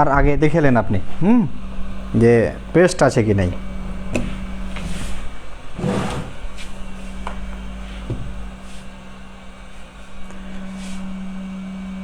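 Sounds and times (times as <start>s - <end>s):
hot air gun humming: 0.7s - 12.0s.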